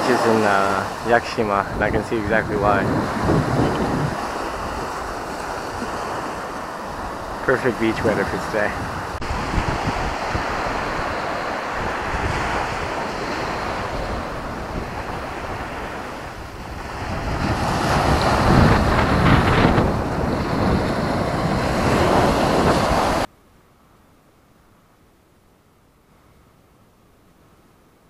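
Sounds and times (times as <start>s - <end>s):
surf washing on sandy beach: 0.0s - 23.3s
wave breaking: 0.0s - 23.3s
wind buffeting microphone: 0.0s - 23.3s.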